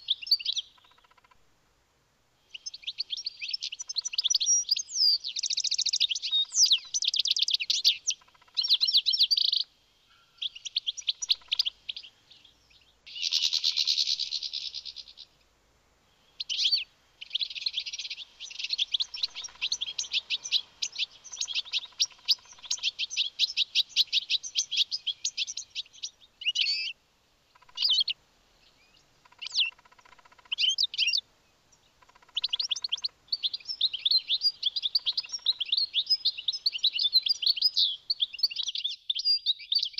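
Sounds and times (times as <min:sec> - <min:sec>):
finch singing: 0:00.0 - 0:01.4, 0:02.4 - 0:15.3, 0:16.1 - 0:27.0, 0:27.6 - 0:39.9.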